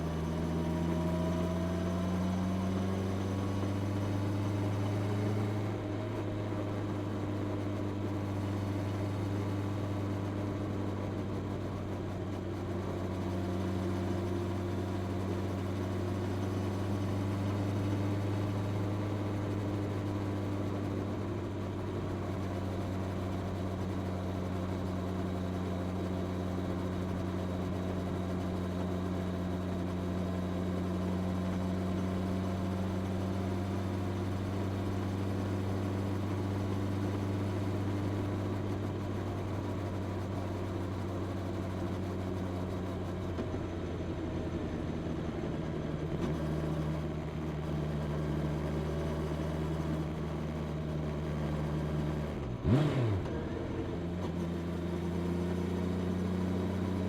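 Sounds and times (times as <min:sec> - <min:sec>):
motorcycle engine running steadily: 0:00.0 - 0:57.0.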